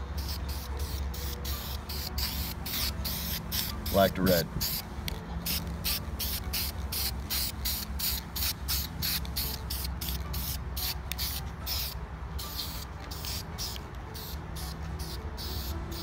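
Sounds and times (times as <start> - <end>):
aerosol spray hisses: 0.2 - 4.9, 5.5 - 16.0.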